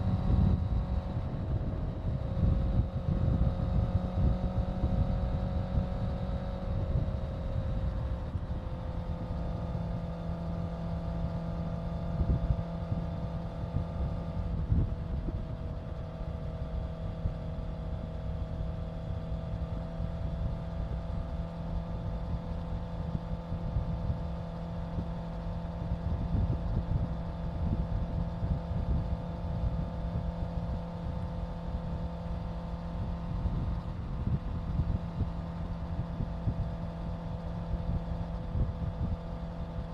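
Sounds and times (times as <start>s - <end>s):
motorcycle engine cruising: 0.0s - 39.9s
wind rumble on microphone: 0.0s - 39.9s.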